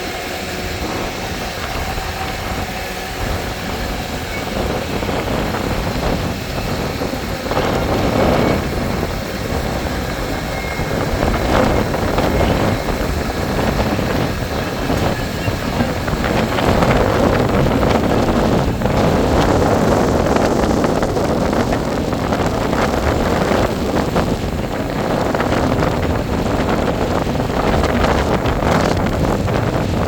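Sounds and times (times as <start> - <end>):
construction machine engine rumbling: 0.0 - 30.0.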